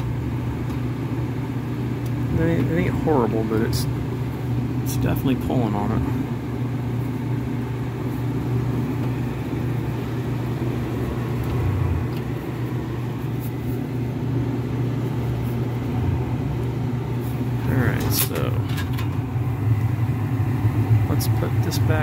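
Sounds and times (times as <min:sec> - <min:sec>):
gas furnace humming: 0:00.0 - 0:22.0.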